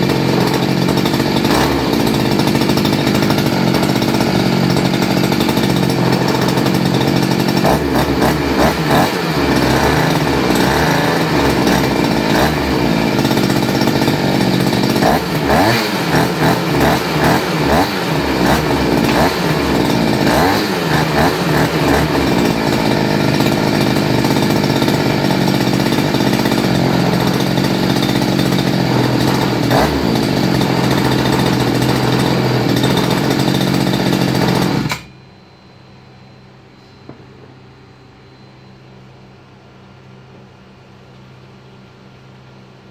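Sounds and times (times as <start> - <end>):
two-stroke engine running: 0.0 - 35.1.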